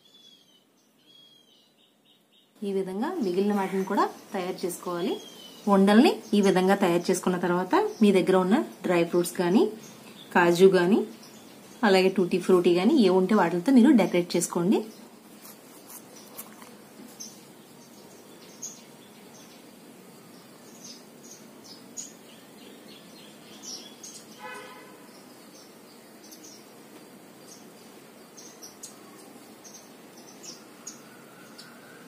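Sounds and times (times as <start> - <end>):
faint birds chirping: 0.0 - 32.0
steady low hiss: 0.0 - 32.0.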